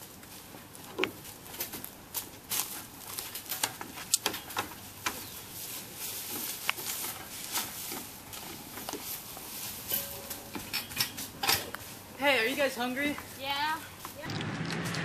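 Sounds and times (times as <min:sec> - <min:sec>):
footsteps on playground steps: 0:00.0 - 0:15.0
footsteps on wood chips: 0:00.2 - 0:14.3.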